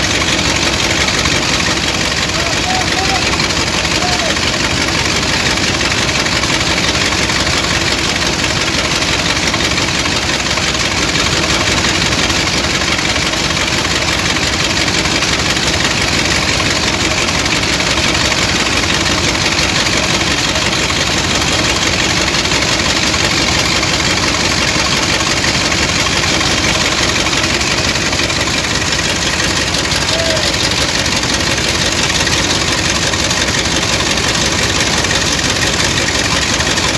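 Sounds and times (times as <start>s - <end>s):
dredger engine running loudly: 0.0s - 36.9s
slurry rushing and churning: 0.0s - 36.9s.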